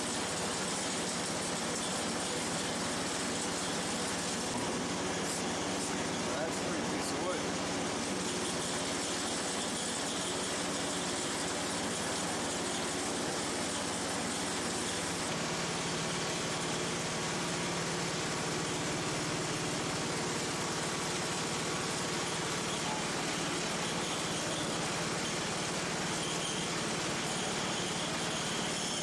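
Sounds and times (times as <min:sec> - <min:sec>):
small gasoline engine idling: 0:00.0 - 0:29.0.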